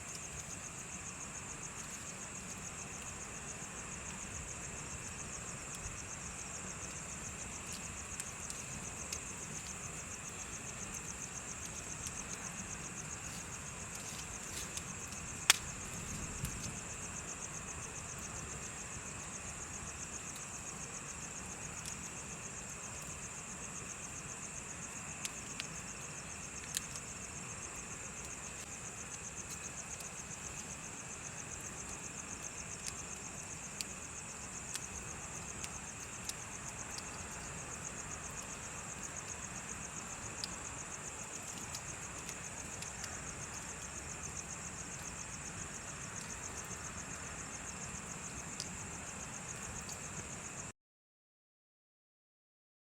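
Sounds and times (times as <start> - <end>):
bonfire crackling and popping: 0.0 - 50.5
crickets chirping: 0.0 - 50.7.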